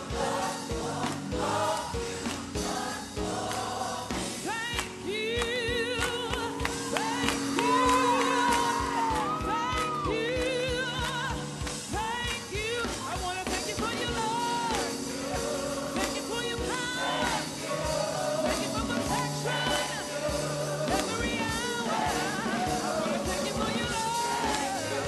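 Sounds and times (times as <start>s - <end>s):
gospel choir singing: 0.0s - 25.0s
lead vocalist singing: 0.0s - 25.0s
live band playing: 0.0s - 25.0s
steady drum beat: 0.0s - 25.0s.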